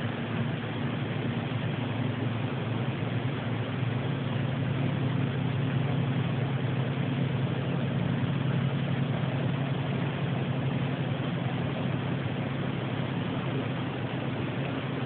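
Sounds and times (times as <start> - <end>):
low droning hum: 0.0 - 15.0
water rushing: 0.0 - 15.0.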